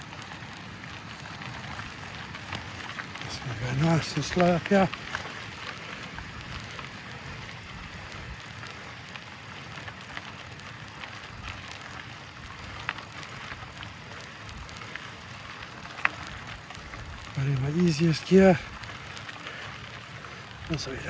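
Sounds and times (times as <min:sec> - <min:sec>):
bike tyres rolling over dirt: 0:00.0 - 0:21.0.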